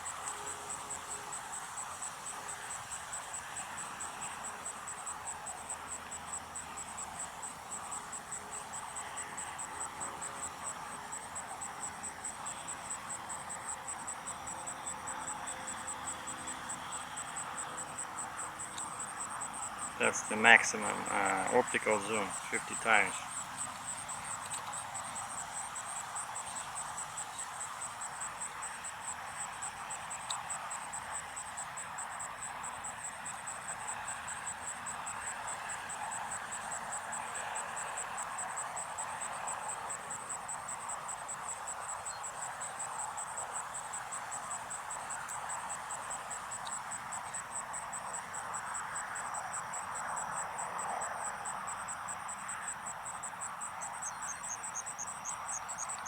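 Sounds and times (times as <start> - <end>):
outdoor air hiss: 0.0 - 49.0
insects trilling: 0.0 - 56.0.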